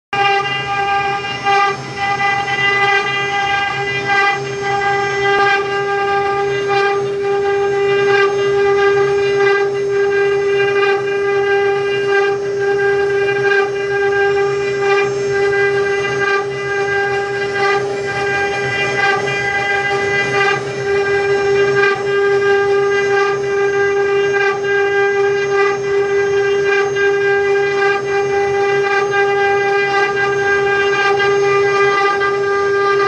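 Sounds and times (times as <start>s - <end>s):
rough wood cutting noise: 0.2s - 33.0s
wood router spindles whining: 0.2s - 33.0s.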